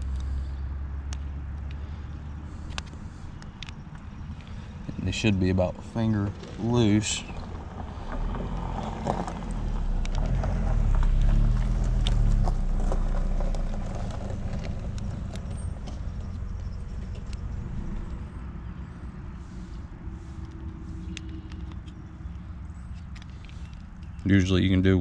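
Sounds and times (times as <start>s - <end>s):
vehicle passing by: 0.0s - 25.0s.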